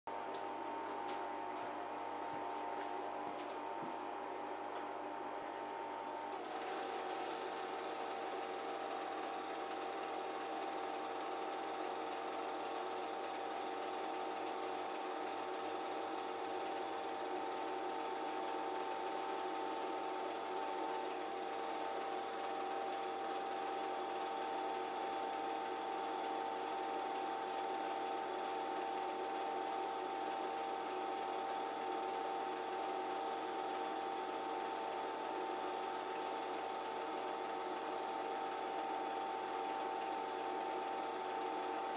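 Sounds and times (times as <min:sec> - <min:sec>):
film projector whirring: 0:02.7 - 0:41.9.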